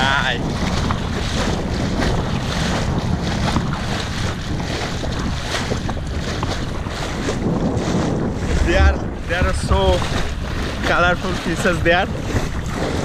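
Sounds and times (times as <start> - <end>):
sea water lapping and splashing: 0.0 - 13.0
wind buffeting microphone: 0.0 - 13.0.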